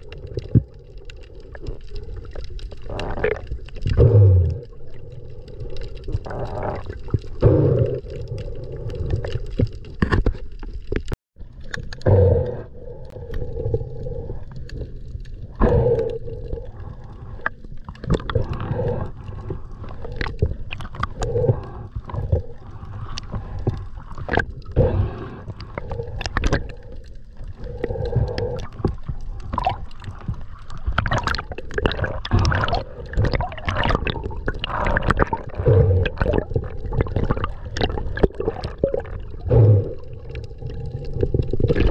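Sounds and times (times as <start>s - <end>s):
sharp underwater clicks: 0.0s - 41.9s
water gurgling and sloshing: 0.0s - 41.9s.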